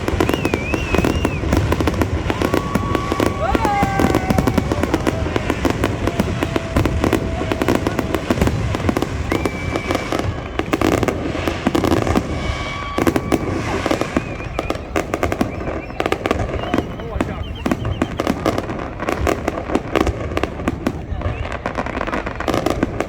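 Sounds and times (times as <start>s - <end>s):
fireworks crackling and popping: 0.0s - 23.0s.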